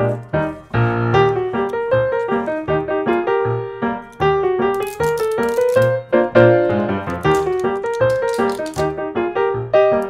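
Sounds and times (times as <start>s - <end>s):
old-time solo piano tune: 0.0s - 10.0s.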